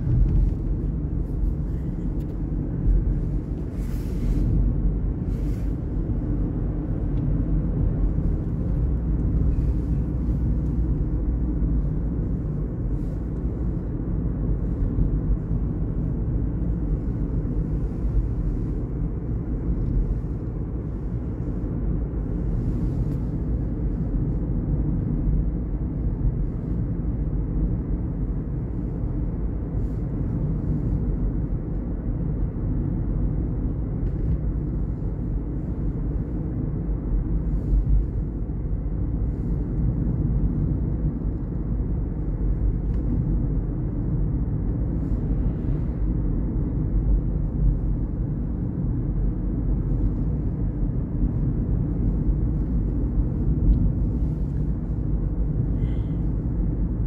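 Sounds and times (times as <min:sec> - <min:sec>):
car driving rumble inside cabin: 0:00.0 - 0:57.0.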